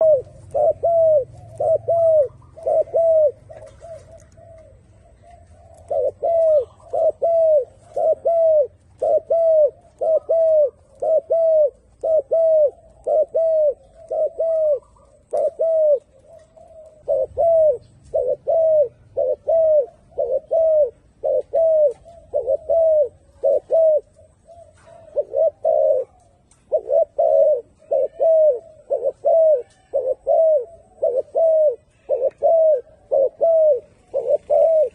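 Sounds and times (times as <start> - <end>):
turtledove cooing: 0.0 - 34.9.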